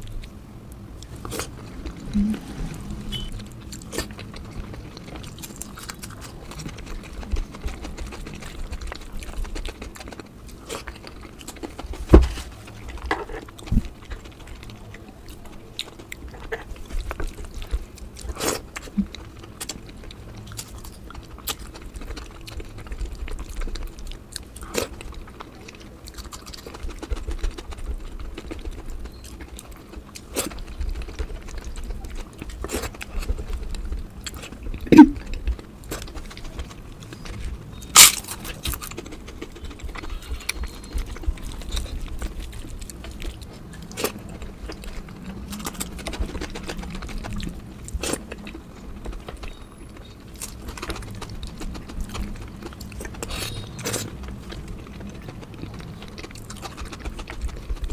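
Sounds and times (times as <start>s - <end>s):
chewing with wet smacks: 0.0s - 57.9s.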